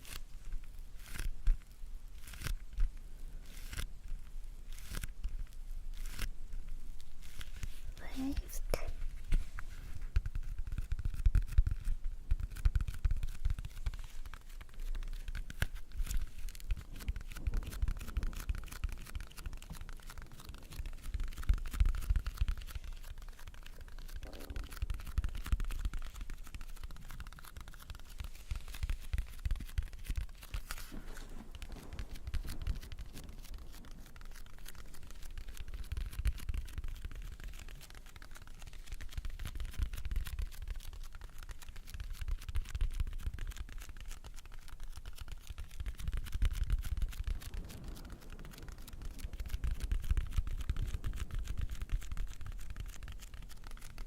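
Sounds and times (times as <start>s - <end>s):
object scratching against microphone: 0.0s - 44.0s.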